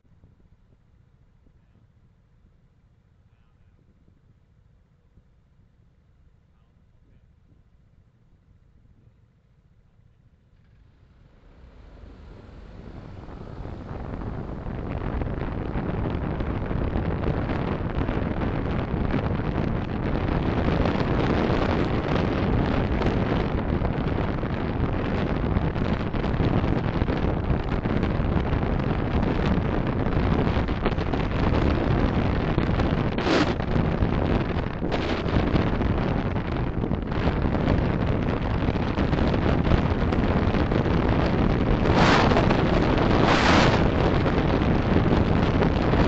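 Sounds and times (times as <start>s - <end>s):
road and wind noise: 0.0s - 46.0s.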